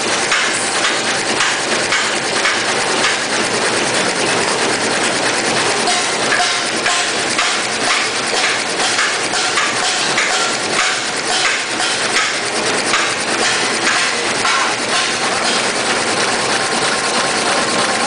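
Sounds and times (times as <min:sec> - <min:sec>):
machine clattering rapidly: 0:00.0 - 0:18.0.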